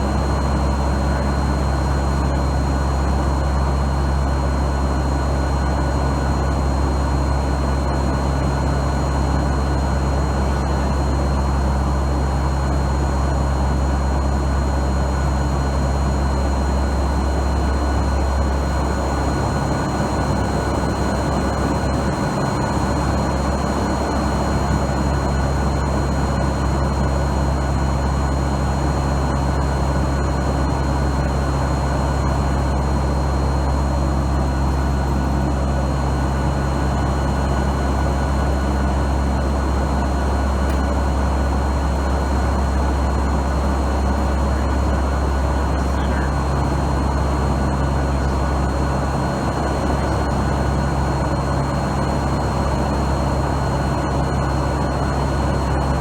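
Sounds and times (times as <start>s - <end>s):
turboprop engines droning in cabin: 0.0s - 56.0s.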